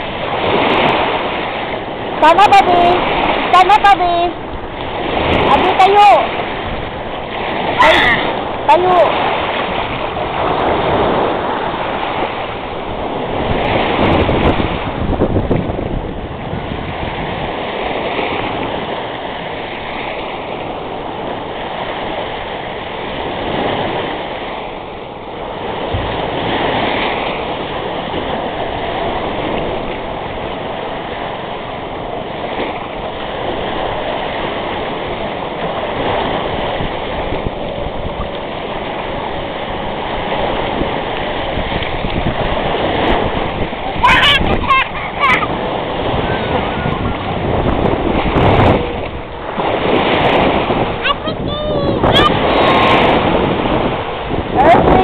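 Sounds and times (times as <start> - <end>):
sea waves washing onto shore: 0.0 - 55.0
wind buffeting microphone: 0.0 - 55.0.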